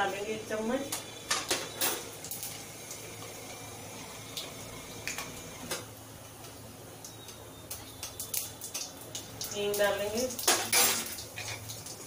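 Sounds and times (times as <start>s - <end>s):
seeds sizzling in hot oil: 0.0s - 12.0s
oil popping and crackling: 0.9s - 12.0s.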